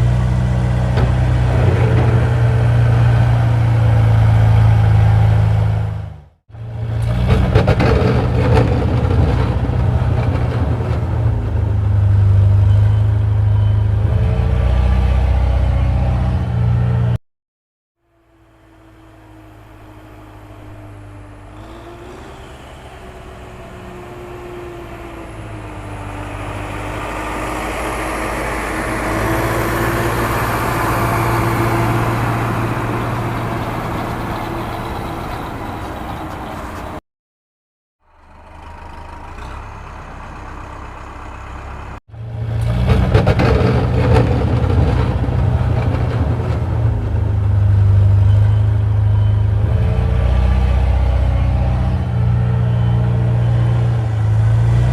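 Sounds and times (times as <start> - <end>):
heavy vehicle engine running: 0.0 - 17.2, 18.3 - 37.0, 38.1 - 54.9.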